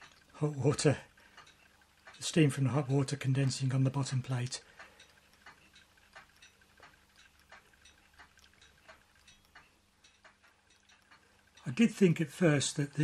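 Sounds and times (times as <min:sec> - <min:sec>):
engine faint regular ticking: 0:00.0 - 0:13.0.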